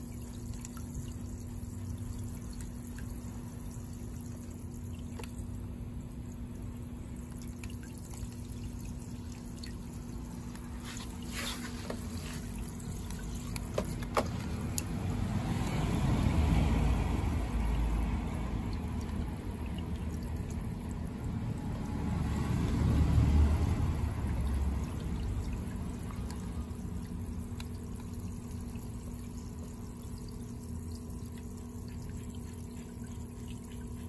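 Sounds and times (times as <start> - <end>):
hose water splashing into tub: 0.0 - 34.0.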